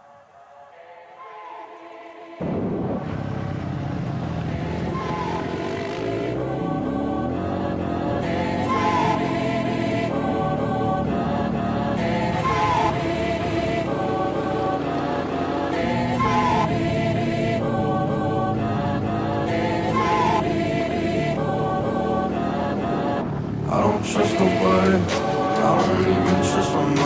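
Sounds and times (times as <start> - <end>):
choir-like vocal music loop: 0.0 - 3.0, 4.4 - 27.0.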